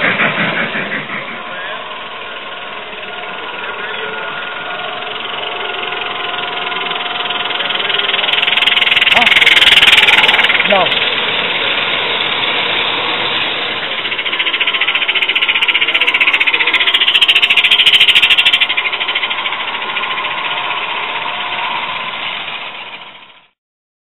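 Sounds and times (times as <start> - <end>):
steam locomotive chuffing: 0.0 - 23.6.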